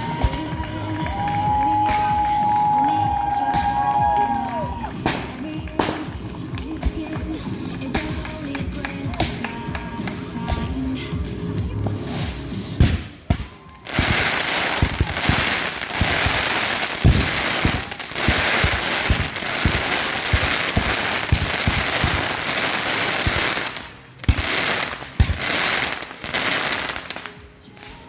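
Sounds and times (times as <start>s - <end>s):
fireworks crackling: 0.0s - 28.0s
fireworks thumps and bangs: 0.0s - 28.0s.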